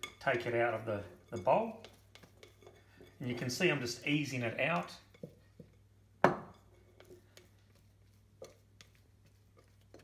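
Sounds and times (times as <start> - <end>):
spatula scraping glass bowl: 0.0 - 5.8, 6.5 - 10.0.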